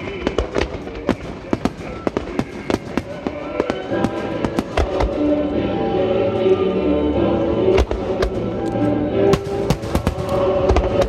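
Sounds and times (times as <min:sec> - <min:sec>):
music playing: 0:02.0 - 0:11.0.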